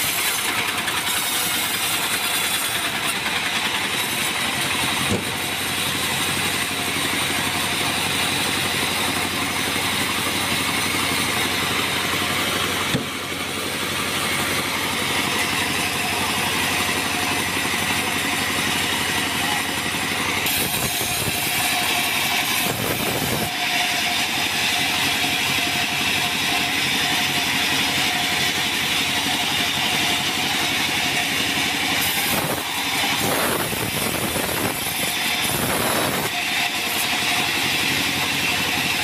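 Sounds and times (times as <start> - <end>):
bandsaw cutting log: 0.0 - 39.0.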